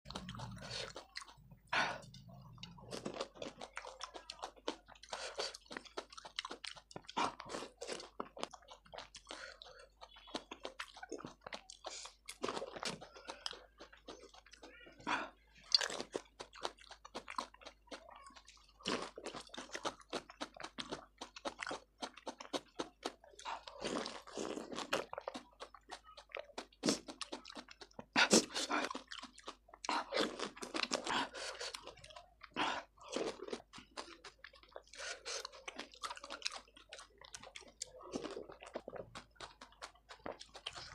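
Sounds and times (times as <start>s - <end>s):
wet chewing: 0.1s - 40.9s.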